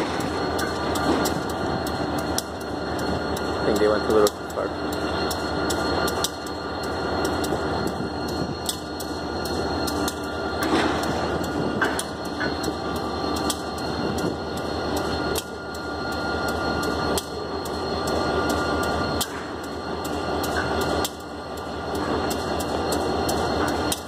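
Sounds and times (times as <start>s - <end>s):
diesel locomotive idling: 0.0s - 24.0s.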